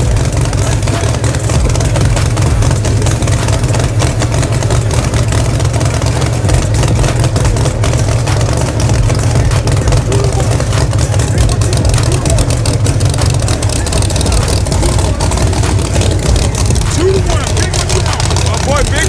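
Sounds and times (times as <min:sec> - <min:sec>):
race car engine idling roughly: 0:00.0 - 0:19.0.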